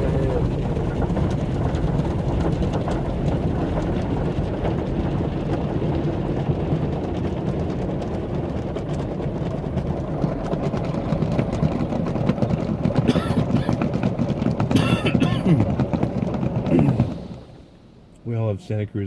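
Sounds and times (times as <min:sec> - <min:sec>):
car wash machinery rumbling: 0:00.0 - 0:19.0.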